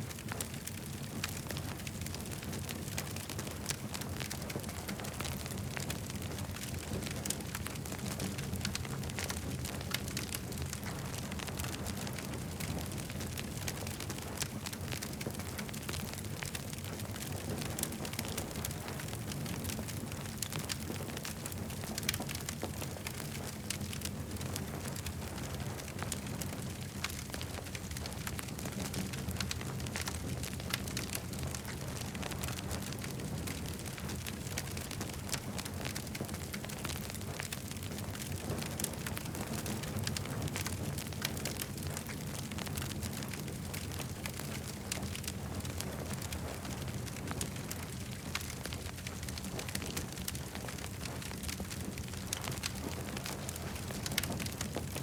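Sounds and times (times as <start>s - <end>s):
campfire crackling and popping: 0.0s - 55.0s
low fire rumble: 0.0s - 55.0s.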